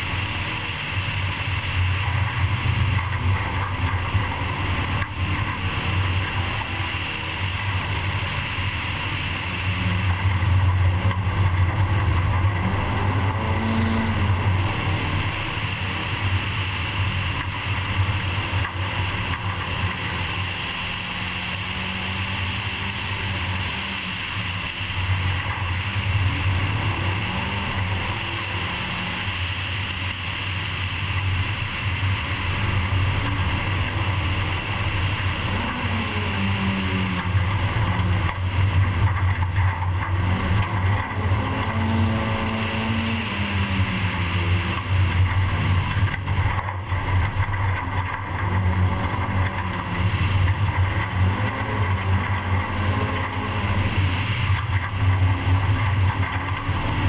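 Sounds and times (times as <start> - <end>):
car engine running hard: 0.0 - 57.0
tyre and road noise: 0.0 - 57.0.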